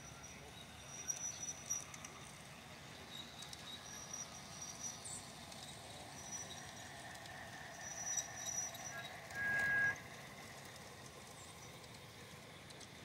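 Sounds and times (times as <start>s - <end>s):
faint clicks: 1.1s - 4.8s, 5.4s - 13.0s.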